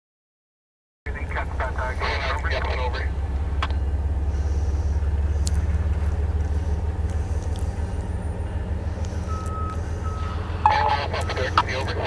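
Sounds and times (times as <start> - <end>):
engine idling: 1.1 - 12.0.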